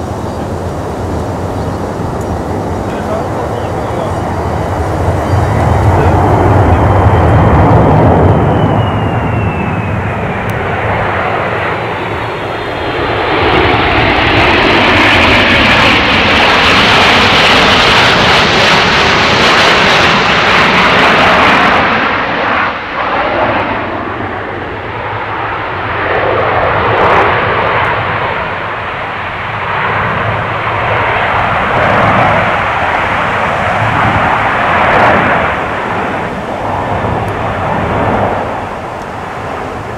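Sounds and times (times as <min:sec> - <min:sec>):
falling jet whine: 0:00.0 - 0:39.9
jet engines roaring past: 0:00.0 - 0:39.9.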